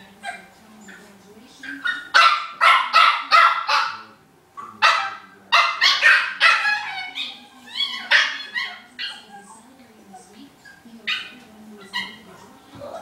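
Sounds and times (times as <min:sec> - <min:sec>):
small dog play-barking: 0:00.0 - 0:09.7, 0:10.6 - 0:13.0.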